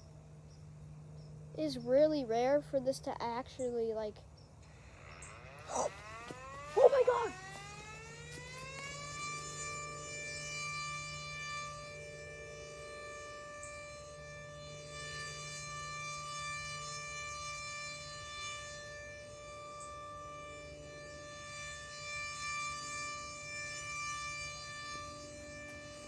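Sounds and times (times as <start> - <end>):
warning siren steady pitch: 4.6 - 26.0.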